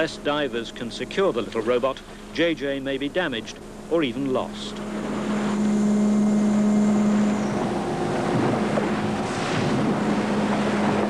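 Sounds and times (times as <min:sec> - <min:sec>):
boat engines humming: 0:00.0 - 0:11.0
sea noise: 0:00.0 - 0:11.0
wind: 0:00.0 - 0:11.0.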